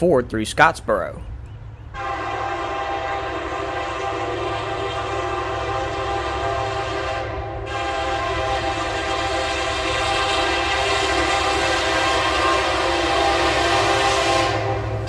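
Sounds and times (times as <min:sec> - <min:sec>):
low train rumble: 0:00.0 - 0:15.0
locomotive air horn chord: 0:01.9 - 0:15.0.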